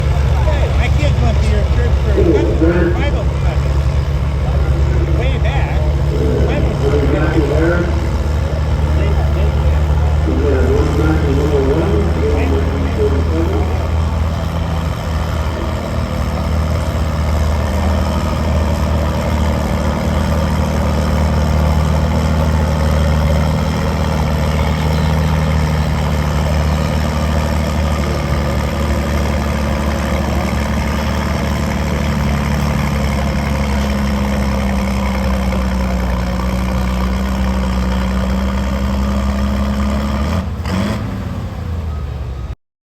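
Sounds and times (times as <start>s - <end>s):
tractor engine running hard: 0.0s - 42.6s.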